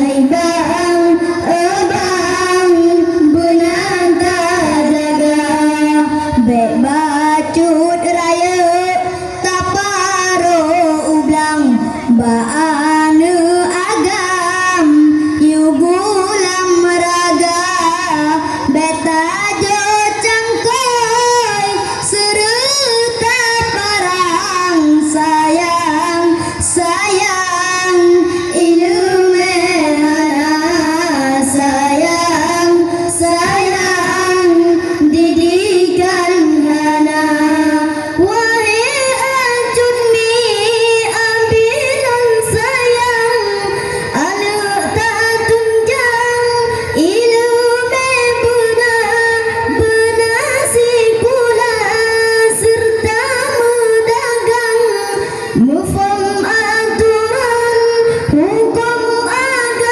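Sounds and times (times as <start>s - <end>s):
boys singing through loudspeaker: 0.0s - 59.9s.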